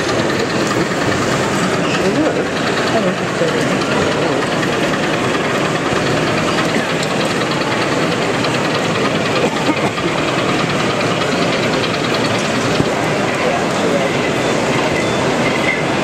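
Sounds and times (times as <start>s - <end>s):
diesel engine sound from small speaker: 0.0s - 16.0s.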